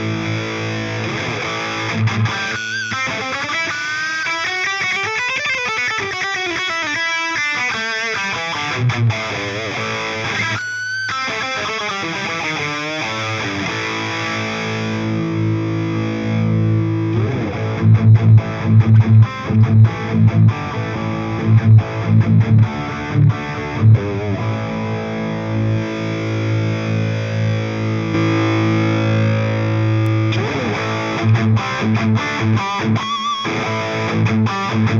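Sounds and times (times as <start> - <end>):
distorted electric guitar: 0.0 - 34.9.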